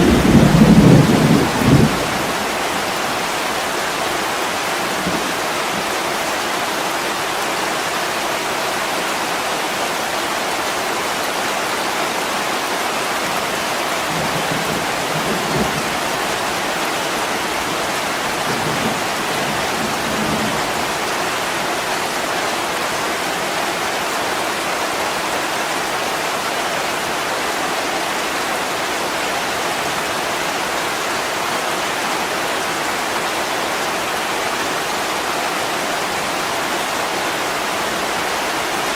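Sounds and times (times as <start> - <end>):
heavy rain on window glass: 0.0 - 38.9.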